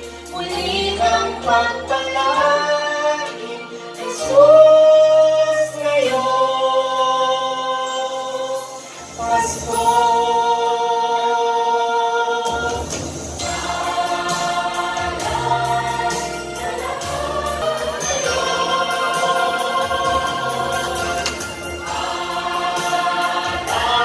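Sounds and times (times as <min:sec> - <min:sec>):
choir singing a carol: 0:00.0 - 0:24.0.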